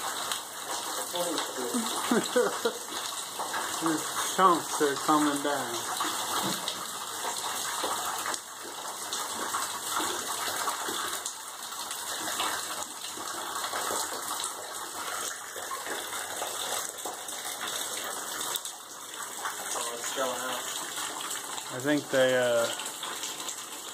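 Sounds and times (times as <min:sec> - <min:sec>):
water splashing onto floor: 0:00.0 - 0:23.9.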